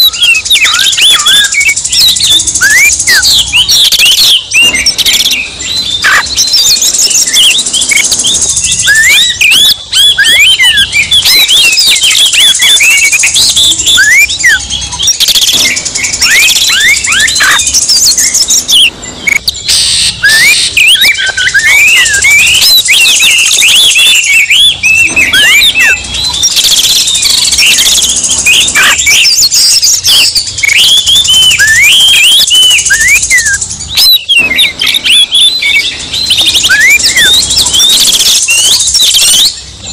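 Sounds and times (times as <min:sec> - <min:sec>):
birds singing and chattering: 0:00.0 - 0:39.9.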